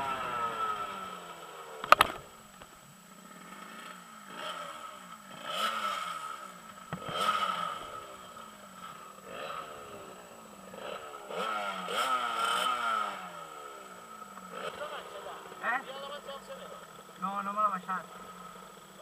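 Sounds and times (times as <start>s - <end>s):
small two-stroke engine revving: 0.0s - 19.0s.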